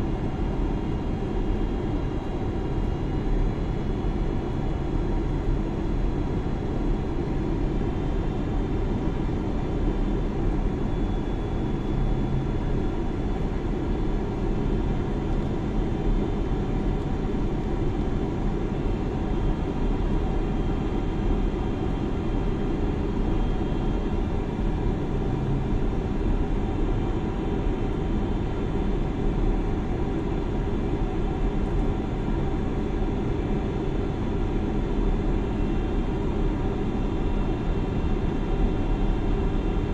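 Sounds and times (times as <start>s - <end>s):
airliner cabin engine noise: 0.0s - 39.9s.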